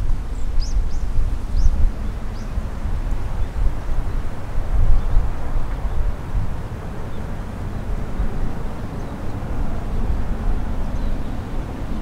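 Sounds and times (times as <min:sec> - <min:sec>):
distant jet engines rumbling: 0:00.0 - 0:12.0
wind noise on microphone: 0:00.0 - 0:12.0.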